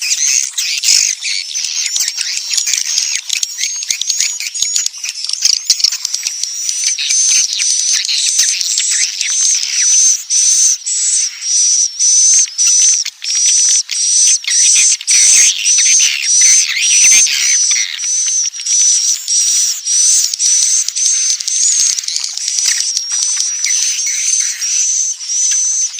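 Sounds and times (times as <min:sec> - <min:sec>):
high twittering bird chirps: 0:00.0 - 0:25.9.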